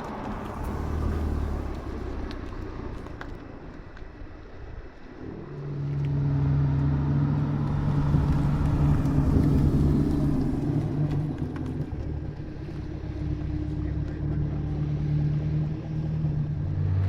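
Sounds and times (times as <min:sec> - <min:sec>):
car engine driving past: 0:00.0 - 0:17.0.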